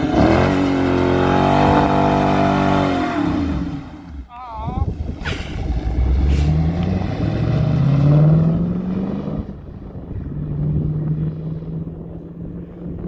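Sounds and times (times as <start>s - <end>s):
car engine revving: 0.0s - 4.3s, 4.9s - 13.0s.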